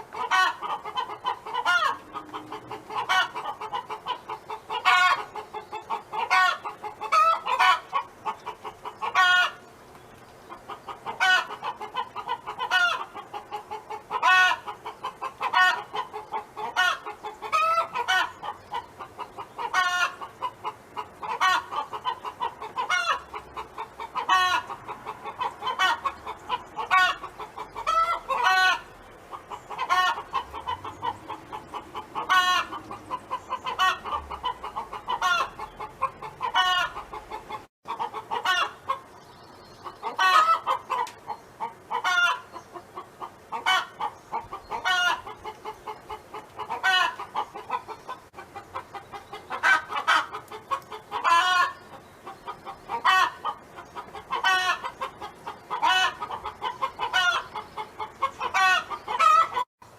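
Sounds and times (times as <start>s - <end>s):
hen clucking and calling: 0.0s - 59.9s.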